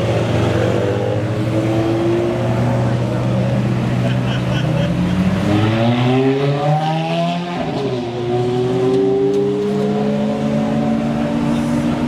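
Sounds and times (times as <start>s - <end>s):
sports car engine accelerating: 0.0s - 12.0s.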